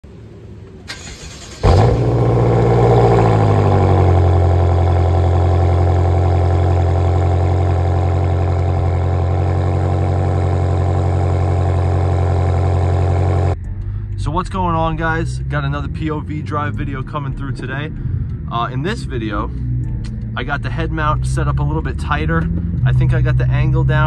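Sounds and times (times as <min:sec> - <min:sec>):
car engine starting and idling: 0:00.1 - 0:24.0.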